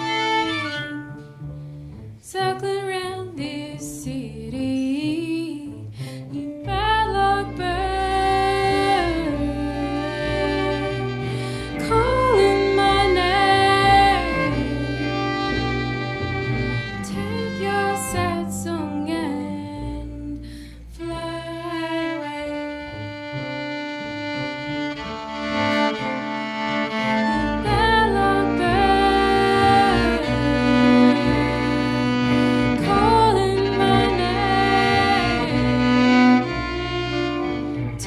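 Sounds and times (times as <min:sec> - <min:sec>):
bowed double bass: 0:00.0 - 0:38.0
guitar: 0:00.0 - 0:38.0.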